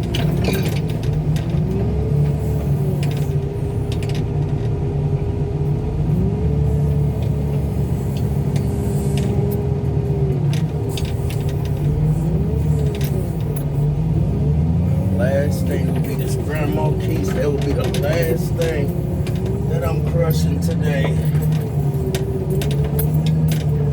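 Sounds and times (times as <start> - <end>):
car crusher engine and hydraulics: 0.0 - 23.9.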